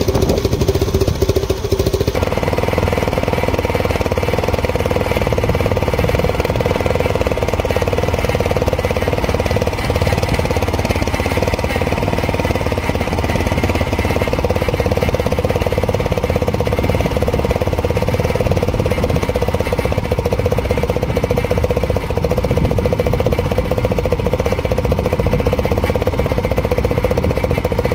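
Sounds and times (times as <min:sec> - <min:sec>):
scooter engine idling: 0:00.0 - 0:27.9.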